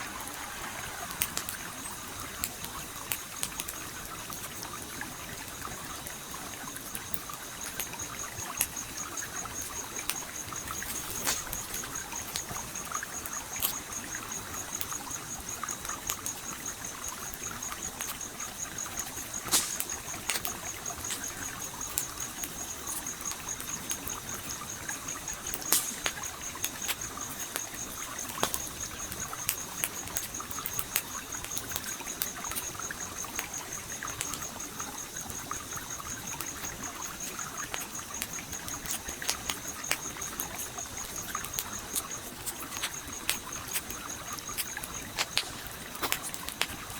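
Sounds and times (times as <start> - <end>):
campfire crackling and popping: 0.0 - 46.9
flowing stream: 0.0 - 46.9.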